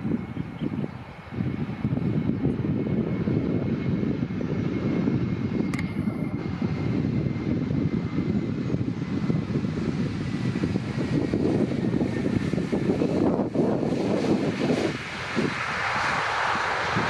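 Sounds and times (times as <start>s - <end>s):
low jet engine rumble: 0.0s - 17.0s.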